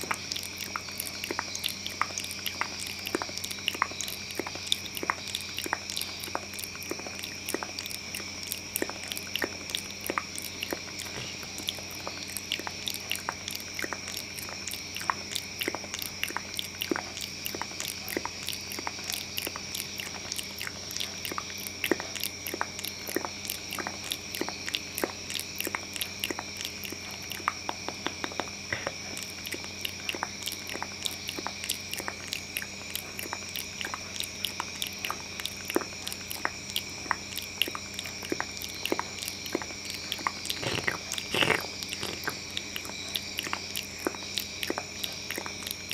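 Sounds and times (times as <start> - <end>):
faint hum and high whine: 0.0 - 45.9
wet mouth clicks and smacks: 0.0 - 45.9.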